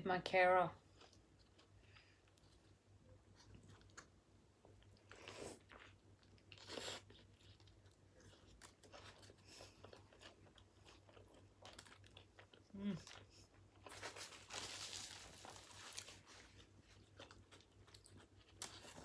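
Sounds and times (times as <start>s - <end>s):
person chewing a burger: 0.9s - 19.0s.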